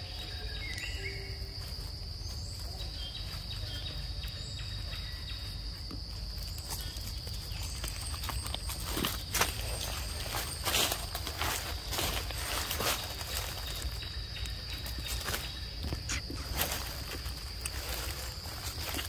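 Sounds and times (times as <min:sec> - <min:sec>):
dry leaves rustling underfoot: 0:00.0 - 0:19.0
faint chirps: 0:00.0 - 0:19.0
high insect chorus: 0:00.0 - 0:19.0.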